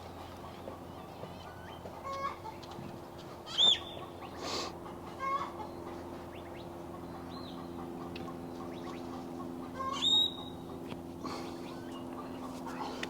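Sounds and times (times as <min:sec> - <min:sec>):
steady low hum: 0:00.0 - 0:13.0
bird calls: 0:00.1 - 0:13.0.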